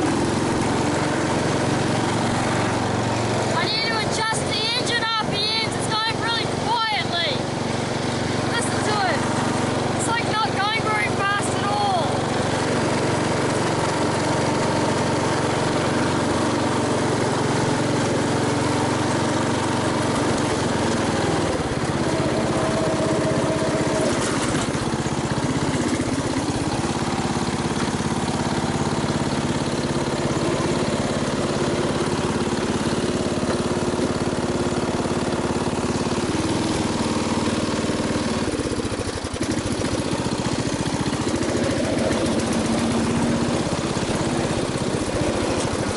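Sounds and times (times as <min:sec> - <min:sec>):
ride-on mower engine running: 0:00.0 - 0:45.9.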